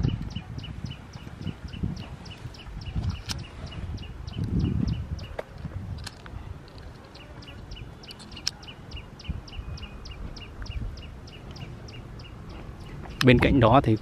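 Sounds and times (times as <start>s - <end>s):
small bird chirping: 0.0s - 5.4s, 6.9s - 14.0s
low wind rumble on microphone: 0.0s - 14.0s.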